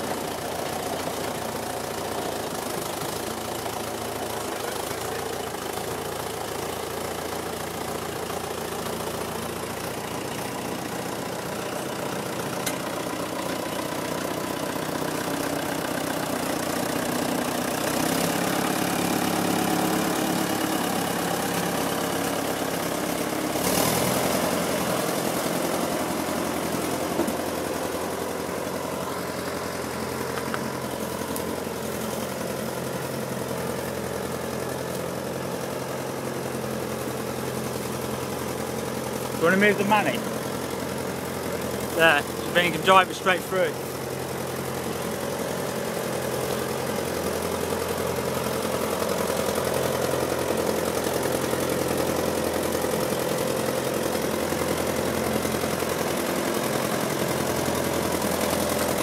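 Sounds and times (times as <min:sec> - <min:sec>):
tractor diesel engines running: 0:00.0 - 0:59.0.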